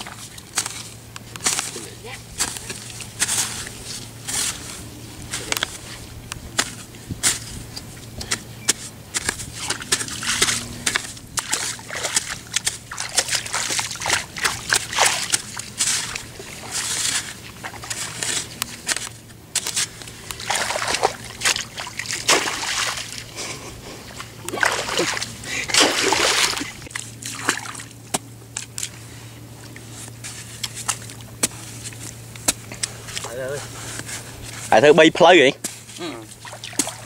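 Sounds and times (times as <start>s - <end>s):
hoe chopping muddy soil: 0.0s - 29.0s, 30.0s - 34.9s, 35.6s - 37.0s.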